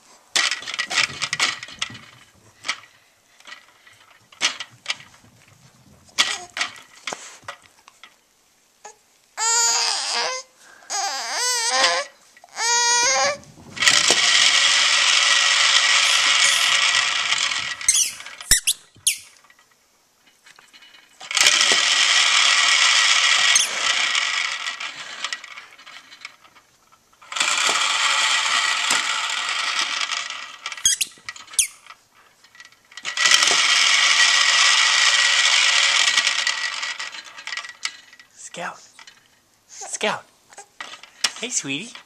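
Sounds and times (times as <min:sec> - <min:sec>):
spinning top whirring and rattling: 0:00.3 - 0:08.2, 0:09.4 - 0:19.8, 0:20.5 - 0:42.0.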